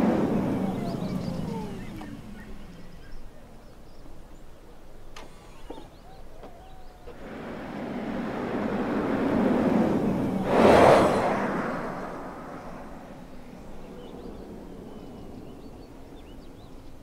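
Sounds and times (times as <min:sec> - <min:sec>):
car tyre and road noise: 0:00.0 - 0:17.0.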